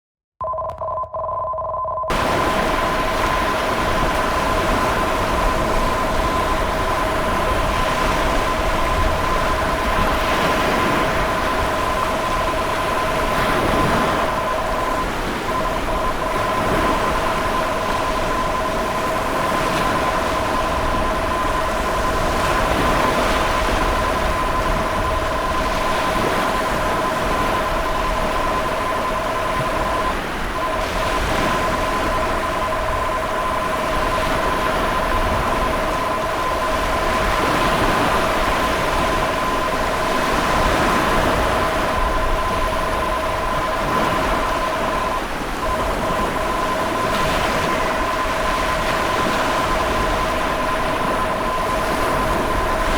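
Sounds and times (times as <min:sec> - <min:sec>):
emergency alert tone: 0:00.4 - 0:52.9
ocean waves rushing: 0:02.1 - 0:52.9.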